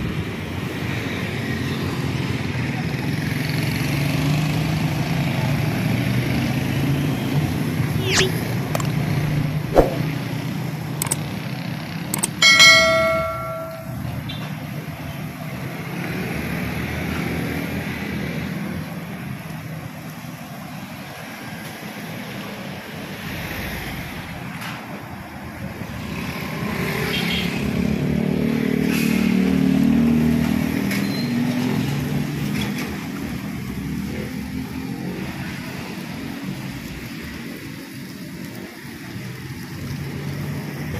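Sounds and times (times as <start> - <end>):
passing cars and motorcycles: 0.0 - 40.9.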